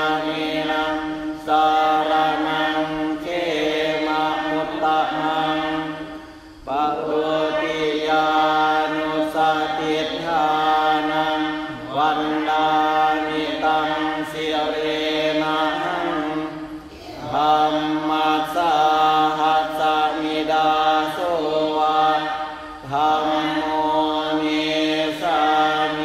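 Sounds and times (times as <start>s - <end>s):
group chanting in unison: 0.0s - 26.0s.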